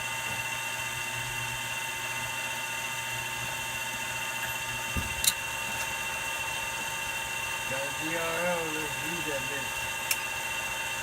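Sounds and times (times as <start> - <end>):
milling machine whine and hum: 0.0 - 11.0.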